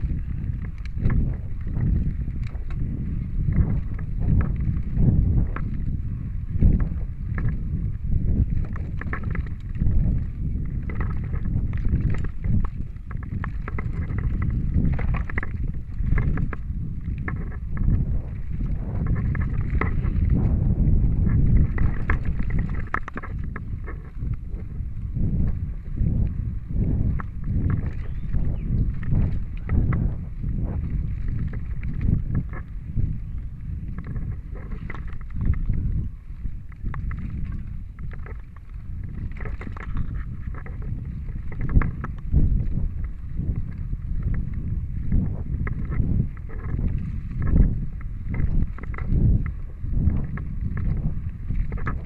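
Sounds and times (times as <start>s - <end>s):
bike clicks and rattles: 0.0s - 52.0s
bike tyres on dirt: 0.0s - 52.0s
wind buffeting microphone: 0.0s - 52.0s.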